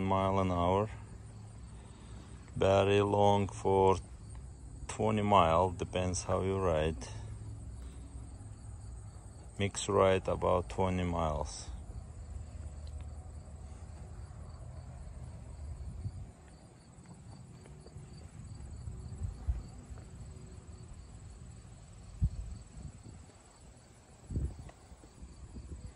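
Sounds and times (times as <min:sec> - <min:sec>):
insects chirping: 0:00.0 - 0:25.9.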